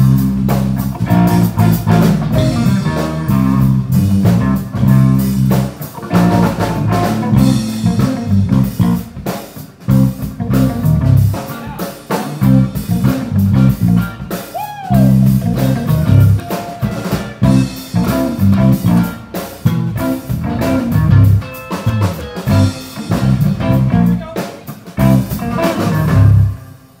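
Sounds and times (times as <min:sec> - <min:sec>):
bass line: 0:00.0 - 0:27.0
drum kit: 0:00.0 - 0:27.0
electric guitar: 0:00.0 - 0:27.0.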